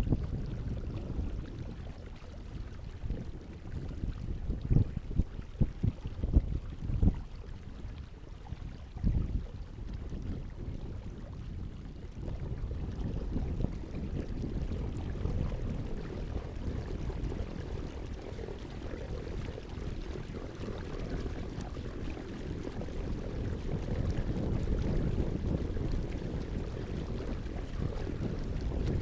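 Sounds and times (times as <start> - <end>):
water splashing and trickling: 0.0 - 29.0
wind buffeting microphone: 0.0 - 29.0.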